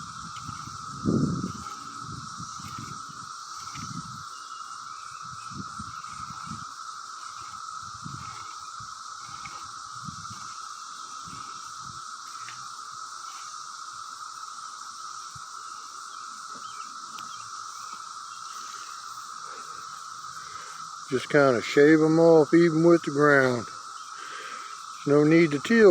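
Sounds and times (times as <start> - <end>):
cicadas chorus drone: 0.0 - 25.9.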